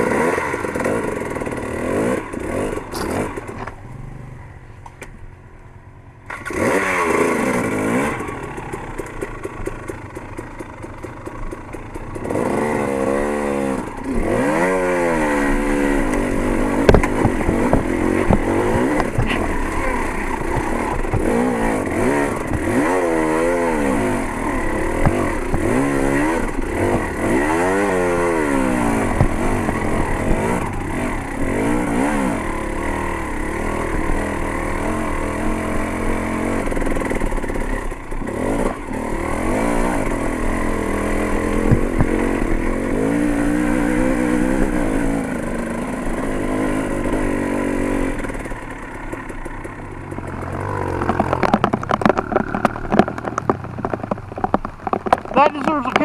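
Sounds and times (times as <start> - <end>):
dirt bike engine revving: 0.0 - 4.6, 6.2 - 56.0
bike knocks and rattles: 1.9 - 3.9, 8.4 - 32.7, 33.4 - 45.2, 46.2 - 56.0.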